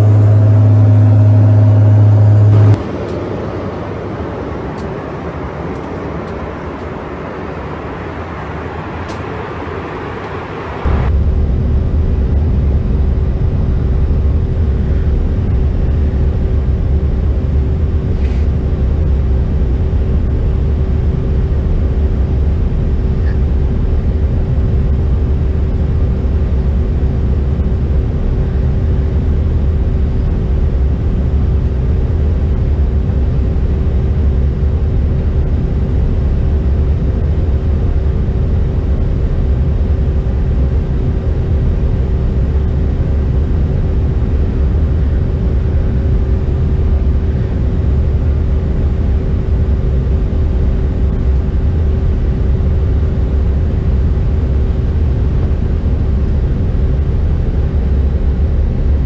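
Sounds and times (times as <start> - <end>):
jet cabin rumble: 0.0 - 59.0
steady hum: 0.0 - 59.0.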